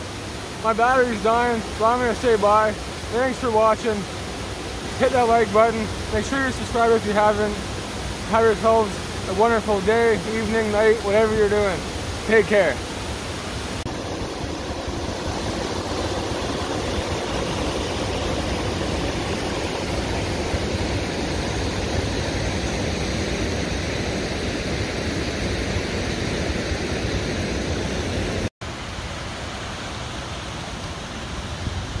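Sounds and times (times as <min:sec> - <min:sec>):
water rushing over rapids: 0:00.0 - 0:32.0.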